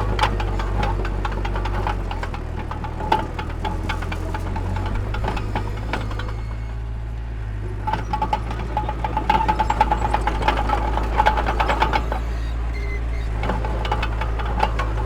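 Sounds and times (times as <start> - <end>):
diesel machine engine rumbling: 0.0 - 15.0
metallic clanking with ringing squeal: 0.0 - 15.0.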